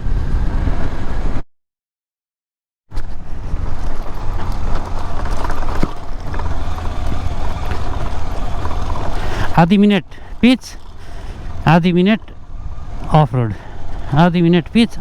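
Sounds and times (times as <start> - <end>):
loud wind noise: 0.0 - 1.4, 2.9 - 15.0
motorcycle engine rumbling: 2.9 - 15.0
sharp knocks from rough road: 2.9 - 15.0.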